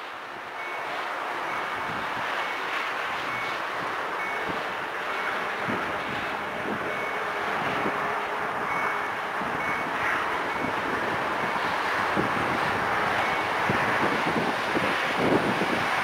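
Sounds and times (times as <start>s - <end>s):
train rushing rumble: 0.0s - 16.0s.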